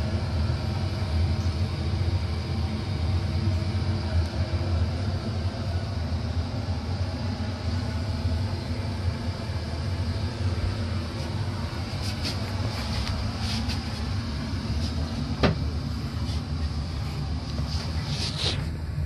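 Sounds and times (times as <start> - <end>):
steam boiler rumbling and hissing: 0.0 - 19.0.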